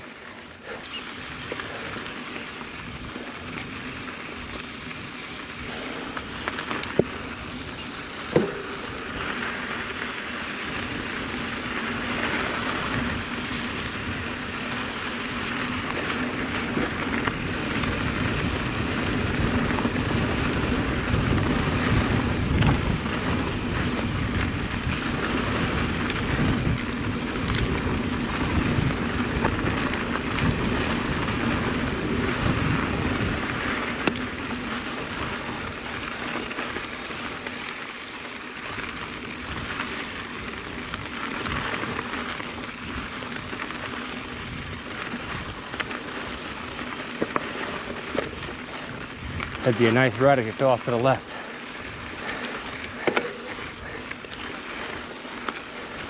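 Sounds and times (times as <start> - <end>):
bike rattling: 0.0 - 56.0
bike tyres crunching on gravel: 0.0 - 56.0.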